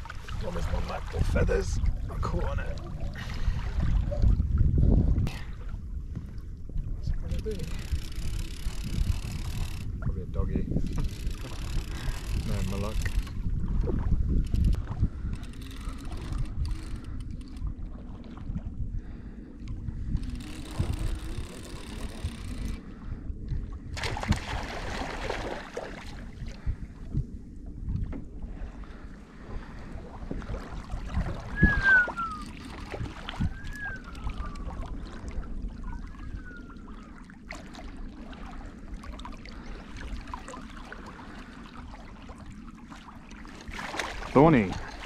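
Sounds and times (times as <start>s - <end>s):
water lapping against hull: 0.0s - 45.0s
wind on microphone: 0.0s - 45.0s.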